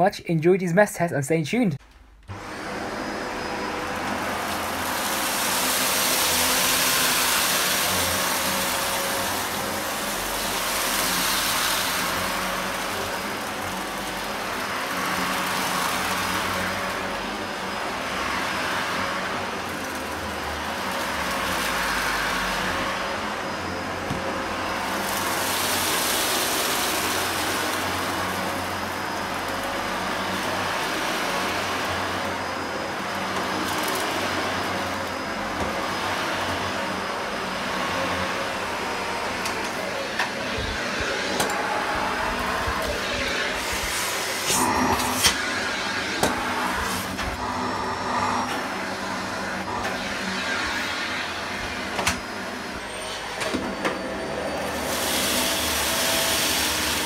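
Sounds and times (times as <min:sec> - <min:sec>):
vacuum cleaner on carpet: 0:02.3 - 0:57.0.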